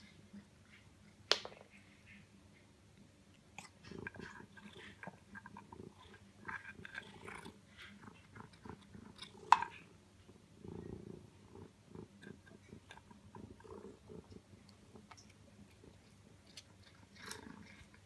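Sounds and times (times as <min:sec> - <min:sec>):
cat eating wet food: 0:03.0 - 0:18.0.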